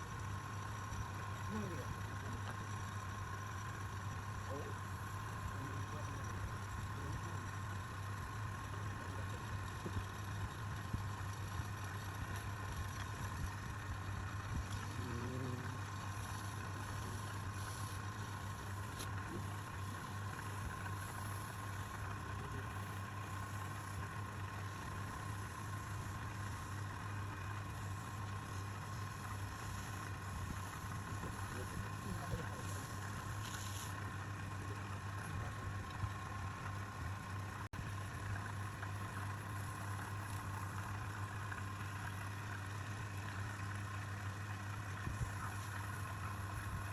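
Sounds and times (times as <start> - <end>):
woodturning lathe motor humming: 0.0 - 46.9.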